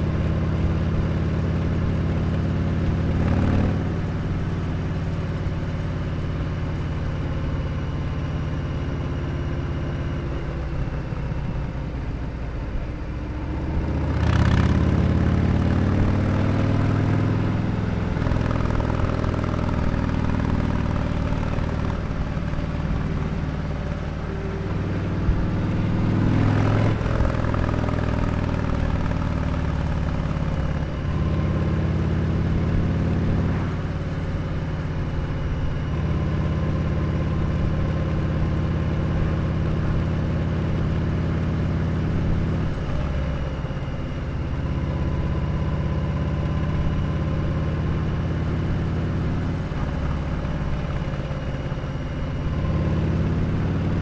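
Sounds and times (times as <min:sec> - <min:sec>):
motorcycle engine revving: 0:00.0 - 0:07.0, 0:13.4 - 0:43.9, 0:44.6 - 0:54.0.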